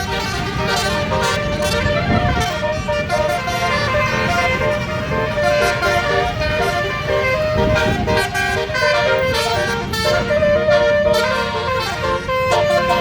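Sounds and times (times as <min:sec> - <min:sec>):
bus horn playing melody: 0:00.0 - 0:13.0.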